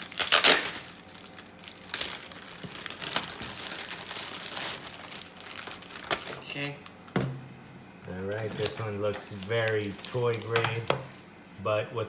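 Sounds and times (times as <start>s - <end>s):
packaging crinkling: 0.0s - 7.2s, 8.1s - 11.4s.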